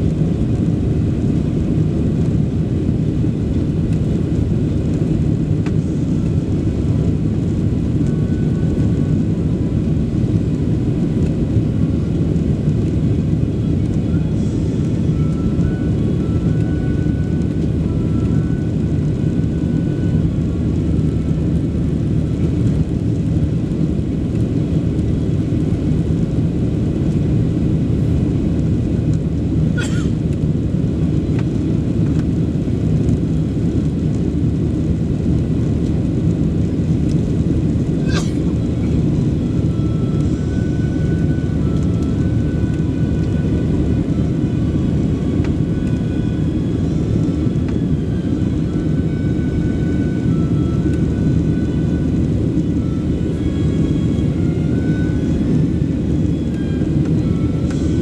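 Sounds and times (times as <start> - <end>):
jet engine rumble in cabin: 0.0 - 58.0.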